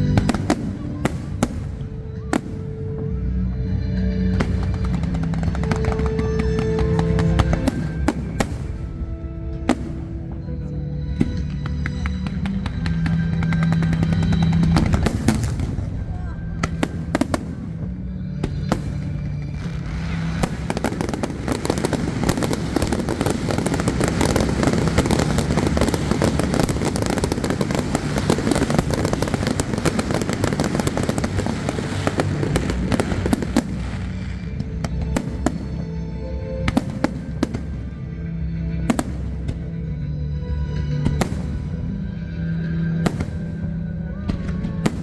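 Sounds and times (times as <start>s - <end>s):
fireworks crackling and banging: 0.0s - 39.9s, 40.7s - 45.0s
music playing: 0.0s - 45.0s.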